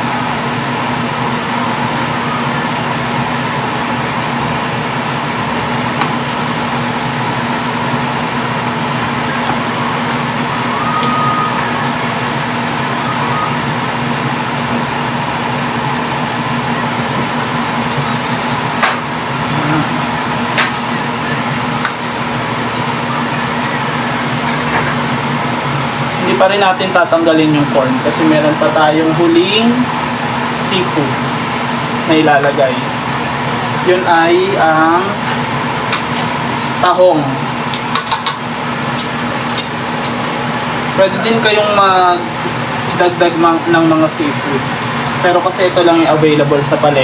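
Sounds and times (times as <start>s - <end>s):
kitchen hum: 0.0s - 47.0s.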